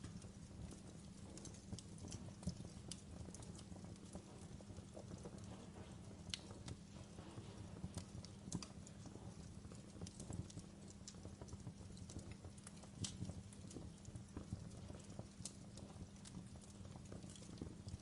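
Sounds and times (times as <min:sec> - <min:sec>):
burning logs crackling and popping: 0:00.0 - 0:18.0
fire flames rumbling: 0:00.0 - 0:18.0.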